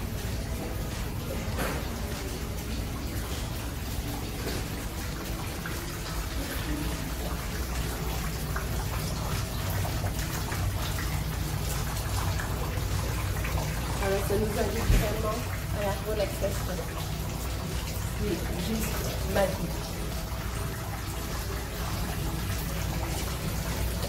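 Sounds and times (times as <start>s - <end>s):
fountain water trickling: 0.0s - 24.0s.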